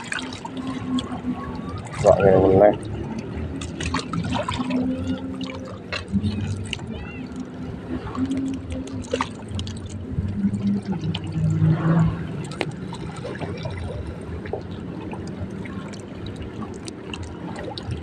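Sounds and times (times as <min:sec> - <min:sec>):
water sloshing and trickling: 0:00.0 - 0:18.0.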